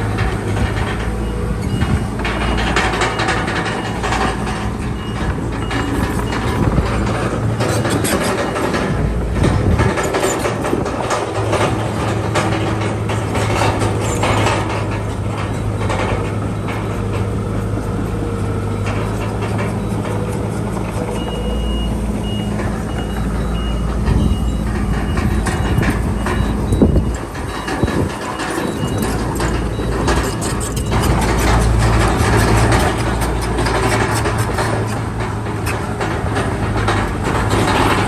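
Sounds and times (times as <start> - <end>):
reversing alarm beeping: 0.0 - 34.9
diesel machinery running: 0.0 - 38.0
metal clanking: 0.0 - 38.0.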